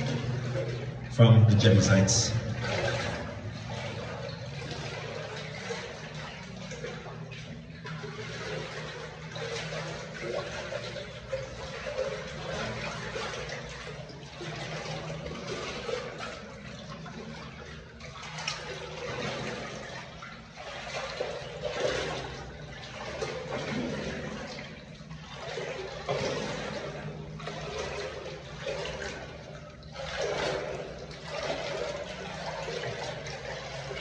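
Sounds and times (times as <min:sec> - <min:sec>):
person wading through water: 0:00.0 - 0:34.0.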